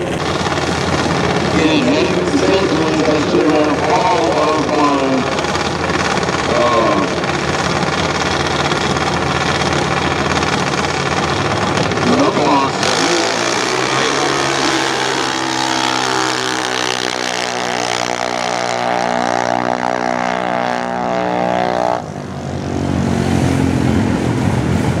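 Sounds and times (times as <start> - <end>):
dragster engine at full throttle: 0.0 - 25.0.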